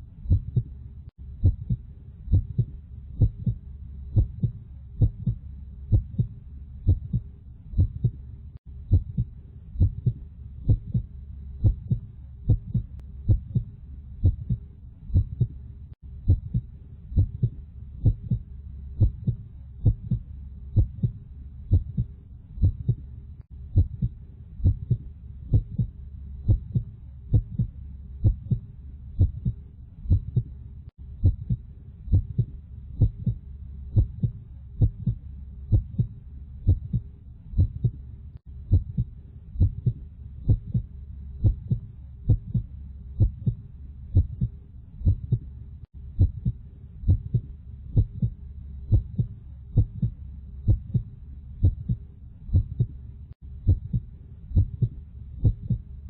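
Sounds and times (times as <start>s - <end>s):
low steady hum: 0.0s - 56.0s
heartbeat thumps: 0.2s - 30.6s, 31.2s - 38.0s, 38.6s - 56.0s.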